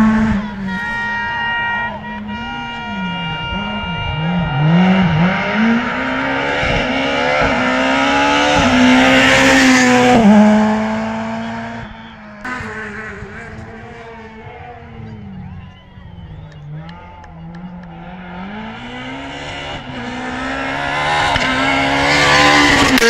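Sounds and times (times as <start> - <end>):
rally car engine passing: 0.0 - 23.0.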